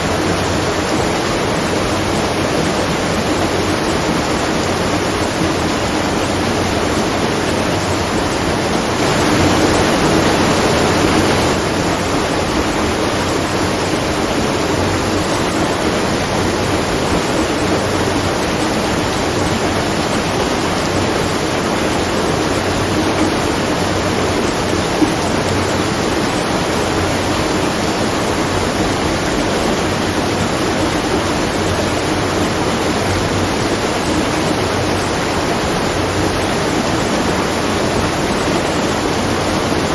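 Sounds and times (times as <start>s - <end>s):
water rushing at a watermill: 0.0s - 39.9s.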